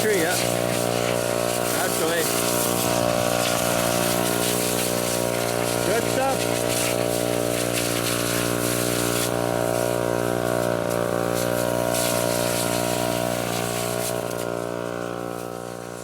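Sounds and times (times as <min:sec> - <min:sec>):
pump engine running: 0:00.0 - 0:16.0
water spraying from hose: 0:00.0 - 0:16.0.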